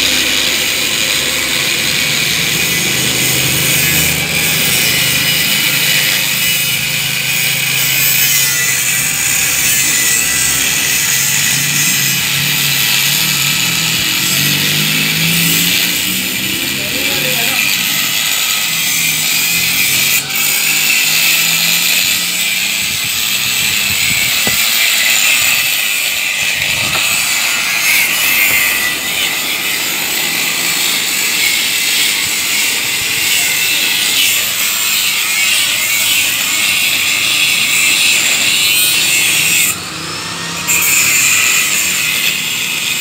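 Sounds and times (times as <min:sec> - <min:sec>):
angle grinder grinding steel: 0:00.0 - 0:43.0.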